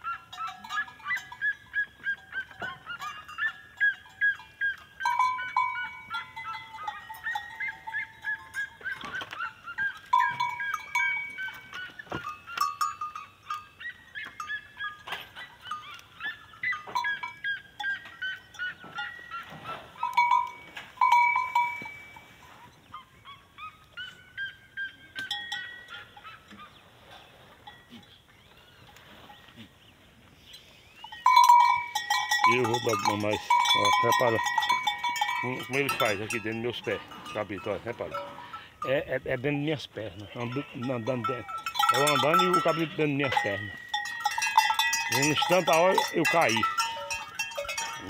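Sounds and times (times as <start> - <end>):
goat bells clanking: 0.0 - 48.0
hooves scuffling: 0.0 - 48.0.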